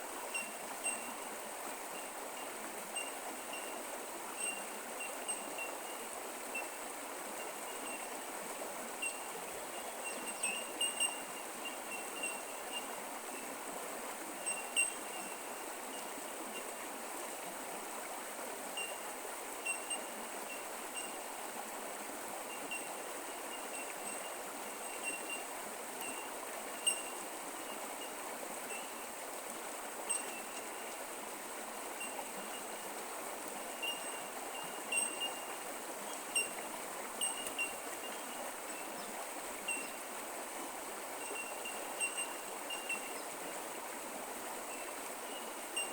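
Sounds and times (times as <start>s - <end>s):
creek water flowing: 0.0s - 45.9s.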